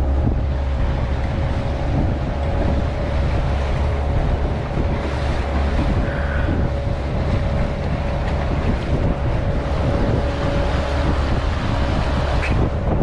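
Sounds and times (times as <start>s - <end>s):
boat motor humming: 0.0s - 13.0s
rushing water: 0.0s - 13.0s
wind buffeting microphone: 0.0s - 13.0s.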